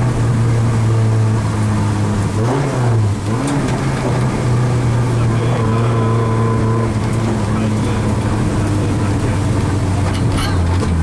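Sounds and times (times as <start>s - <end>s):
car engine running from inside: 0.0s - 11.0s.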